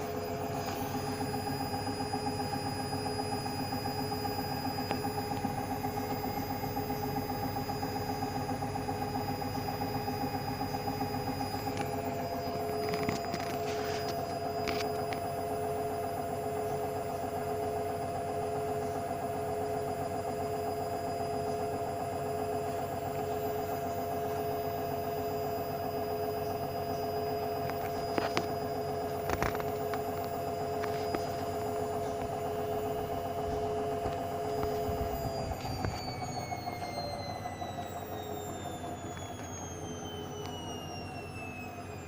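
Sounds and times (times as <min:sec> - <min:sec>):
washing machine motor whine: 0:00.0 - 0:42.0.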